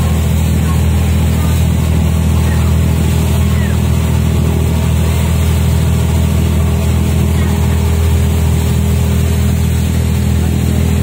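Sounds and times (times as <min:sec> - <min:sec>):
boat diesel engine drone: 0:00.0 - 0:11.0
churning wake water: 0:00.0 - 0:11.0.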